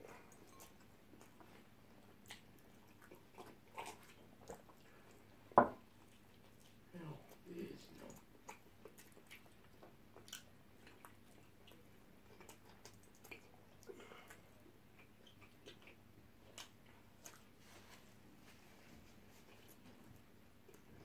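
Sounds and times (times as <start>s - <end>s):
people chewing food: 0.0s - 21.0s.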